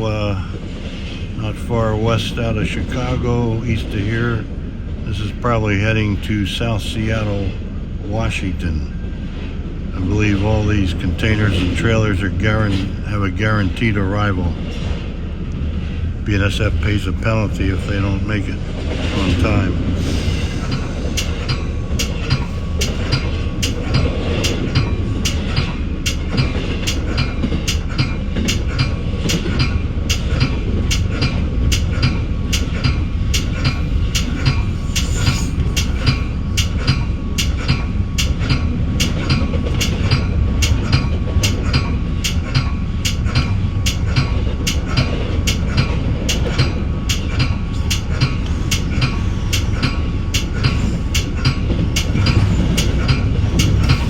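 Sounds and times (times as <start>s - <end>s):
rail joint clicks: 0.0s - 54.0s
train wheels rumbling on rail: 0.0s - 54.0s.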